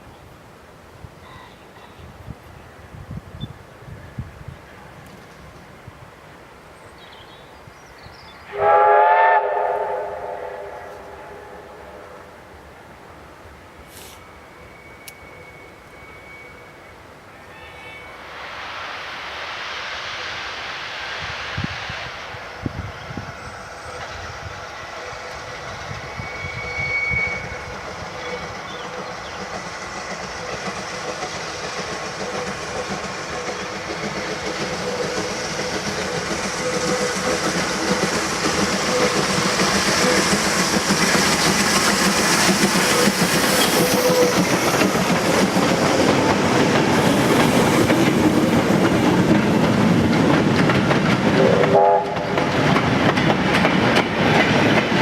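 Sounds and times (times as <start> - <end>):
train wheels and wagons rolling: 1.6 - 55.0
steam locomotive exhaust: 6.9 - 55.0.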